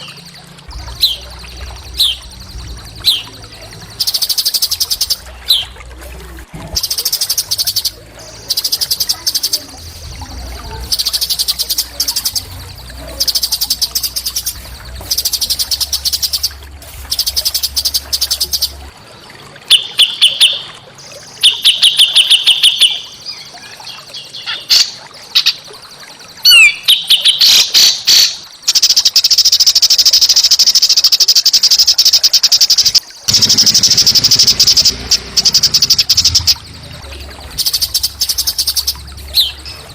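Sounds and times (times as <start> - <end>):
songbird buzzy trills: 0.0 - 39.9.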